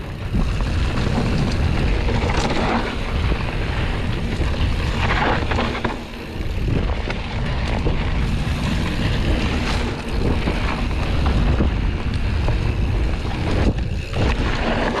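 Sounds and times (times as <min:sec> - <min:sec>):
bike knocking and rattling: 0:00.0 - 0:15.0
tyres rolling on dirt: 0:00.0 - 0:15.0
wind buffeting microphone: 0:00.0 - 0:15.0.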